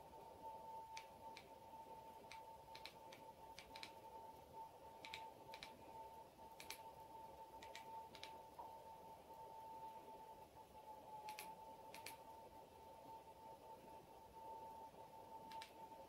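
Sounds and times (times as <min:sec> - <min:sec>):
faint high hum: 0:00.0 - 0:16.0.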